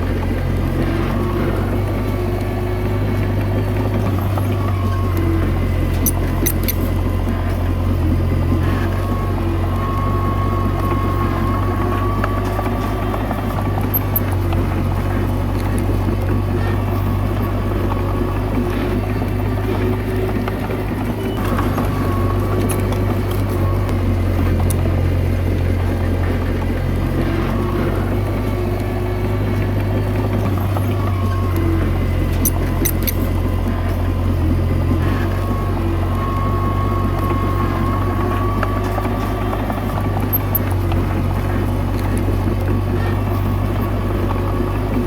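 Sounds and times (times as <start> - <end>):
diesel engine running under load: 0.0 - 45.0
held whine: 0.0 - 45.0.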